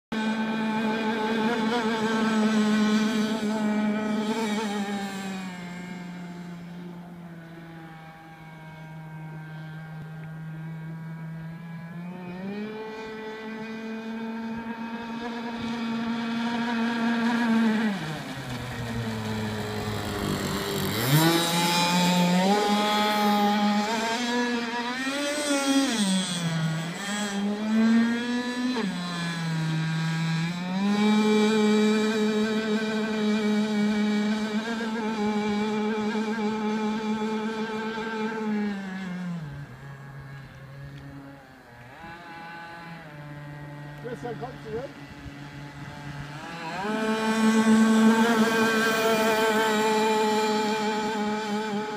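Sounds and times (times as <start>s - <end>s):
model speedboat motor whine: 0.1s - 51.9s.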